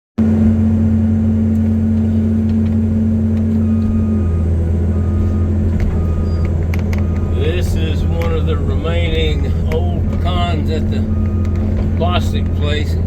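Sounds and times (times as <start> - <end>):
excavator diesel engine droning: 0.2 - 13.0.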